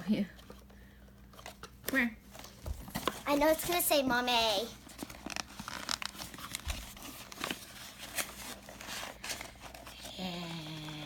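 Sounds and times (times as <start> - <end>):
plastic rustling: 0.4 - 11.0.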